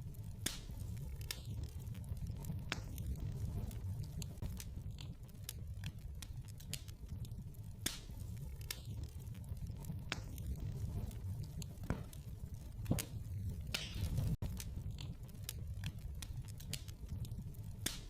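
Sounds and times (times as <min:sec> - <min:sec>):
fire snaps and pops: 0:00.0 - 0:18.0
low rumble of fire: 0:00.0 - 0:18.0
wood fire crackling: 0:00.0 - 0:18.0.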